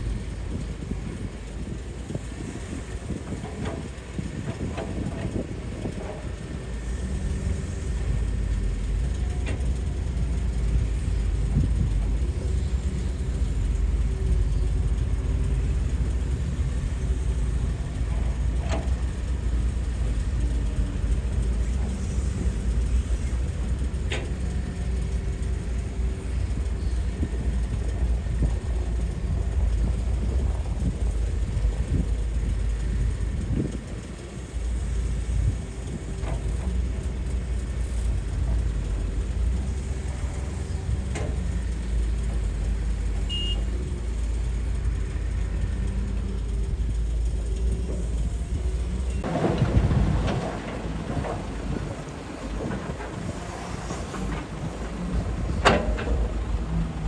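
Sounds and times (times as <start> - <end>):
excavator diesel engine rumbling: 0.0 - 57.0.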